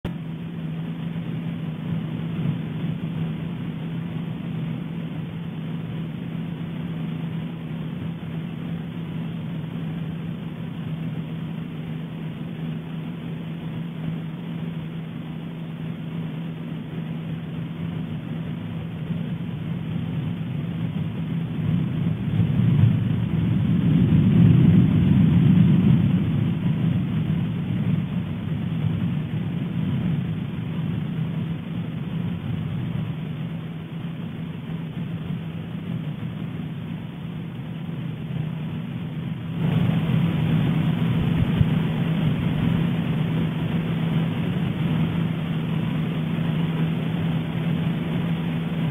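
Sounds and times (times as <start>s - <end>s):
steady low hum: 0.0s - 48.9s
volcano eruption rumble: 0.1s - 48.9s.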